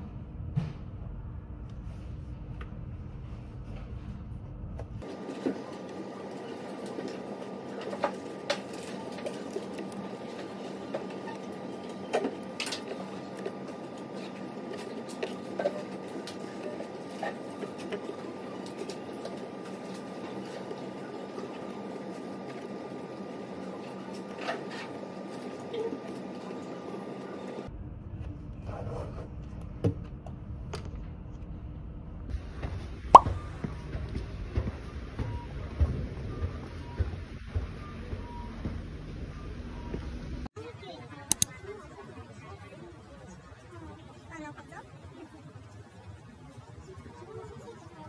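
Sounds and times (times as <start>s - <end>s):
room hum: 0.0s - 40.5s.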